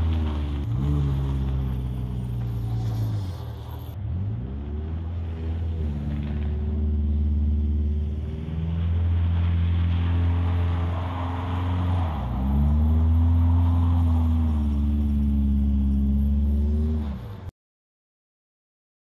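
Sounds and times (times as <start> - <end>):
car engine revving: 0.0 - 17.5.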